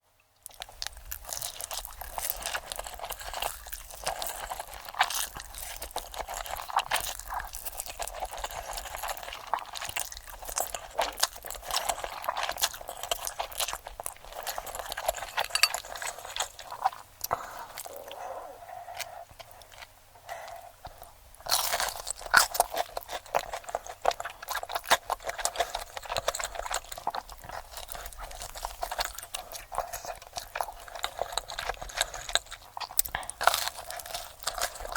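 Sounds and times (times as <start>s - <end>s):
crunchy bites and chewing: 0.5s - 18.2s, 18.9s - 34.9s.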